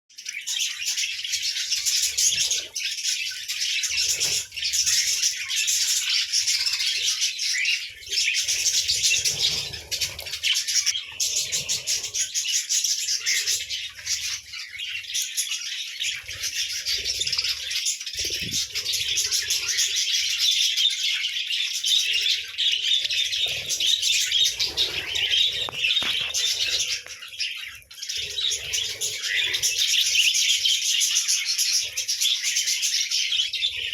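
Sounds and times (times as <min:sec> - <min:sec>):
budgerigars chattering and chirping: 0:00.2 - 0:33.9.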